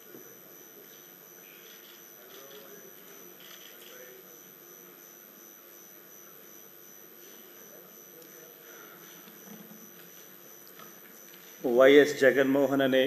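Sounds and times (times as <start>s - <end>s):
low hiss and hum: 0.0s - 13.0s.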